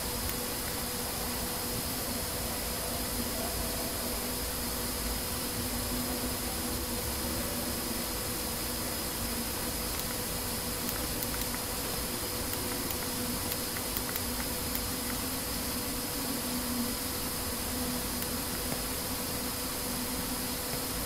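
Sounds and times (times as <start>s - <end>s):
electrical hum and hiss: 0.0s - 21.0s.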